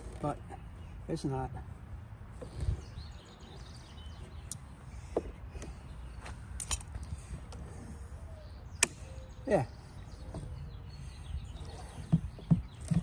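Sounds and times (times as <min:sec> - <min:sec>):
low outdoor hum: 0:00.0 - 0:13.0.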